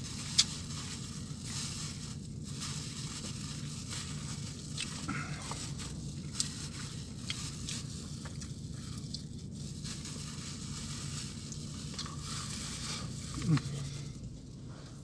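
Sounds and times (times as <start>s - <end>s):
low steady hum: 0.0s - 15.0s
plastic gloves crinkling: 0.0s - 15.0s.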